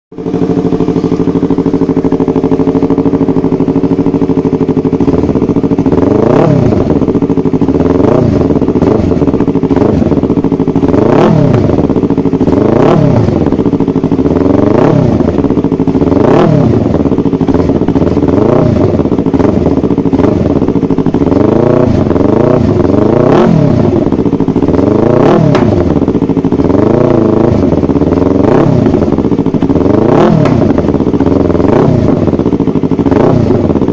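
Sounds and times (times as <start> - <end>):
motorcycle engine idling: 0.1 - 33.9
motorcycle engine revving: 0.1 - 33.9.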